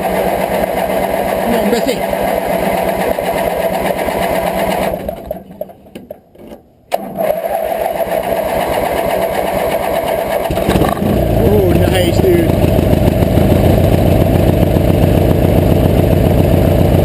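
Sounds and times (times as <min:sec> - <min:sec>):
electric starter cranking engine: 0:00.0 - 0:05.8, 0:06.9 - 0:17.0.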